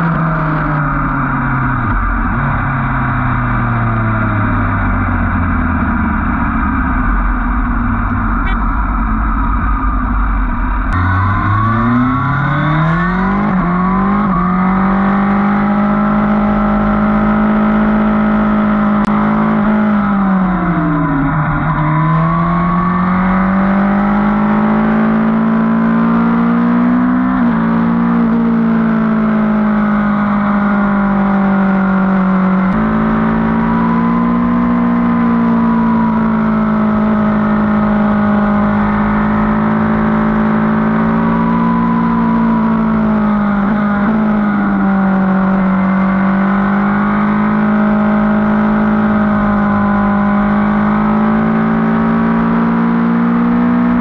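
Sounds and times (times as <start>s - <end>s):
motorcycle engine running: 0.0s - 21.4s, 26.9s - 53.0s.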